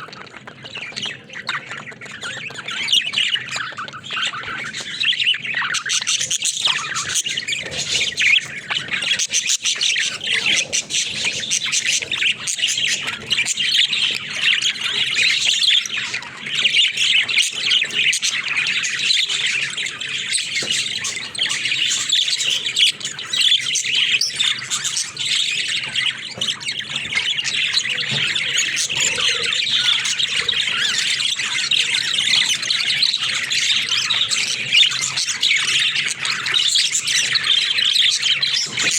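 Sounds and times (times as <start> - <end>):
budgerigars chirping and warbling: 0.0 - 38.9.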